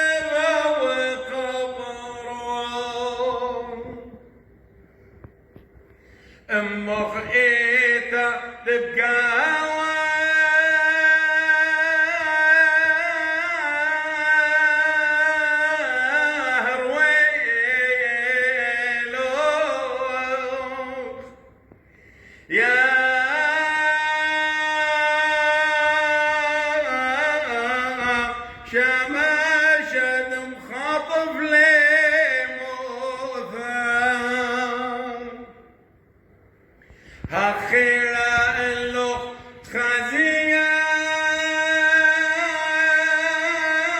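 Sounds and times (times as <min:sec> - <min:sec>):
man chanting a hymn: 0:00.0 - 0:04.3, 0:06.4 - 0:21.6, 0:22.4 - 0:35.7, 0:37.1 - 0:43.9.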